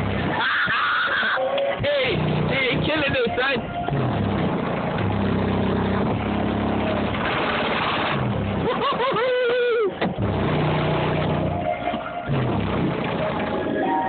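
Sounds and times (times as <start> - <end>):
bass-heavy music from subwoofers: 0.0 - 8.8, 9.9 - 14.0.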